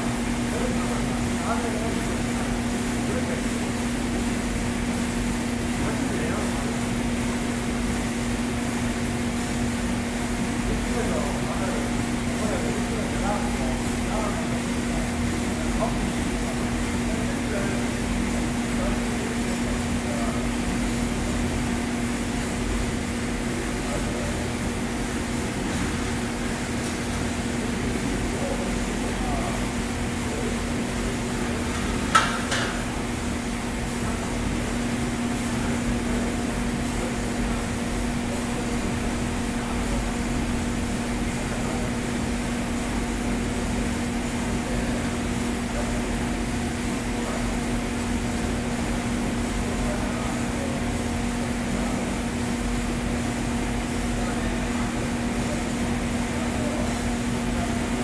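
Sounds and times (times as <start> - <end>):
coffee roaster humming: 0.0 - 58.0.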